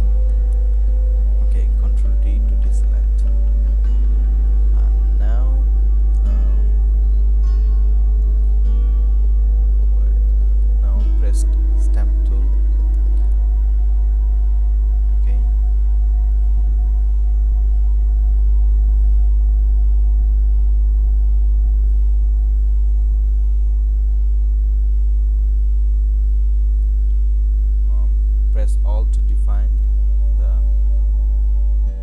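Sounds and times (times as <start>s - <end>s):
faint steady tones: 0.0s - 32.0s
low electrical hum: 0.0s - 32.0s.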